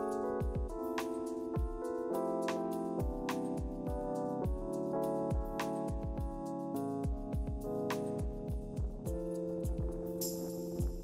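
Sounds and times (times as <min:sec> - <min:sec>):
electronic music with keyboard chords: 0:00.0 - 0:11.0.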